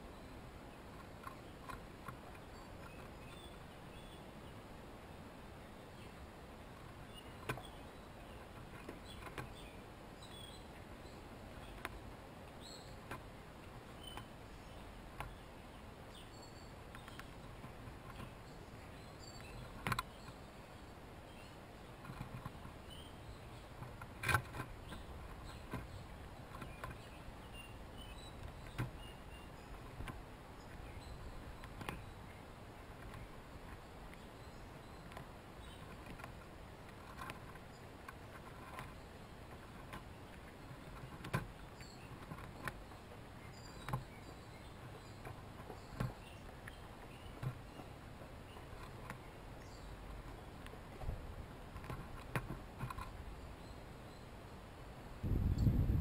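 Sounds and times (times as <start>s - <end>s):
songbird chirps: 0.0s - 56.0s
chipmunks gnawing corn clicks: 0.7s - 4.2s, 6.0s - 53.7s.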